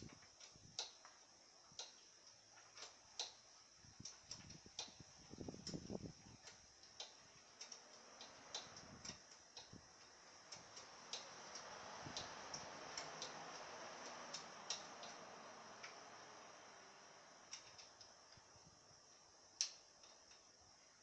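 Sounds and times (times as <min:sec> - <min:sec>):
soft hiss: 0:00.0 - 0:21.0.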